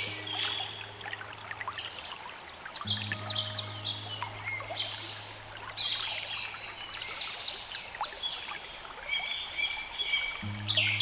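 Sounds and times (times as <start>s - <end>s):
running water trickling: 0.0s - 11.0s
songbirds chirping: 0.0s - 11.0s.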